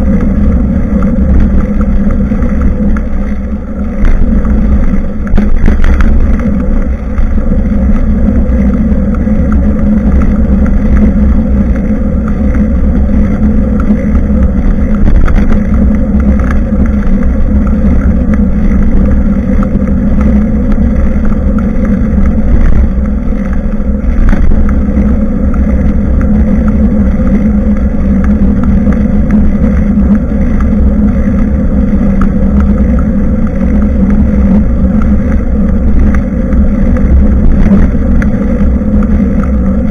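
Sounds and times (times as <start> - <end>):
wind rumble while cycling: 0.0 - 39.9.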